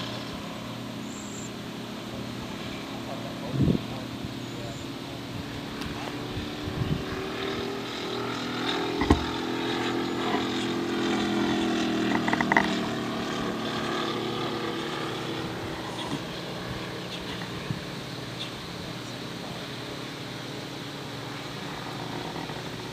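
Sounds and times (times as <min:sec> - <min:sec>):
model airplane engine: 0:00.0 - 0:22.9.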